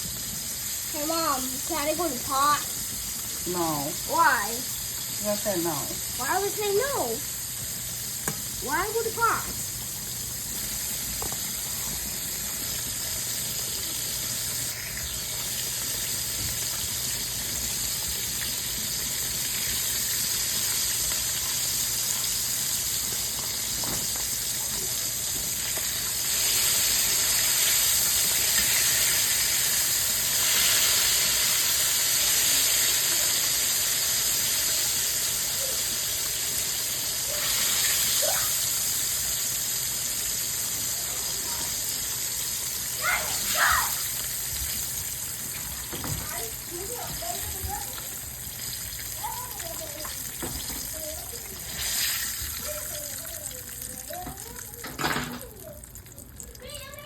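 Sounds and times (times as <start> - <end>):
food frying in grease: 0.0 - 57.0.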